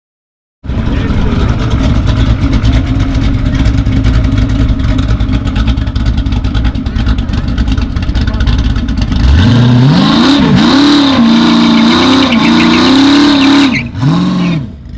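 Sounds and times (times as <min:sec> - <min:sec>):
car engine exhaust rumble: 0:00.6 - 0:14.9.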